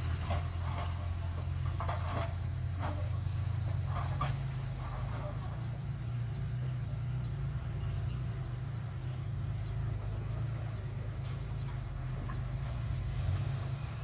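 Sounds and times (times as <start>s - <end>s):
diesel machinery engine rumble: 0.0s - 14.0s.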